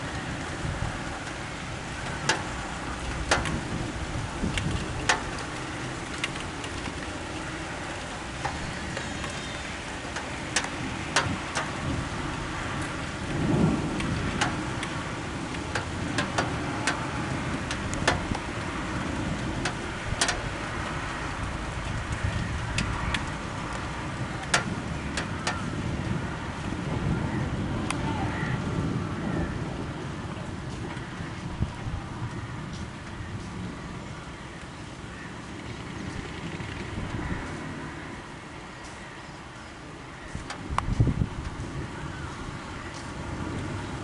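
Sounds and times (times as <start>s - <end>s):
raindrops tapping on surface: 0.0s - 27.1s, 29.8s - 38.0s, 38.7s - 44.0s
thunder rumbling: 0.0s - 38.7s
steady rain: 0.0s - 44.0s.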